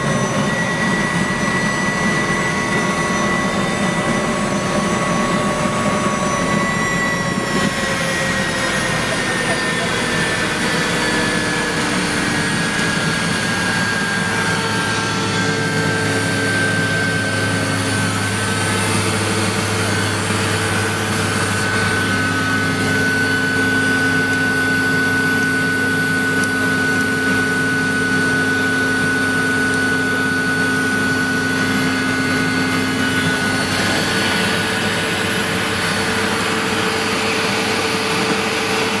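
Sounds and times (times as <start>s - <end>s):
helicopter turbine whine: 0.0s - 39.0s.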